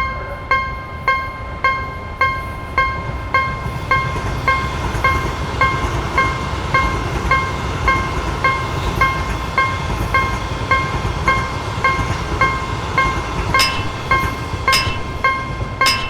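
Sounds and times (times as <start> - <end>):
level-crossing warning bell ringing: 0.0 - 16.0
train rumbling past: 0.0 - 16.0.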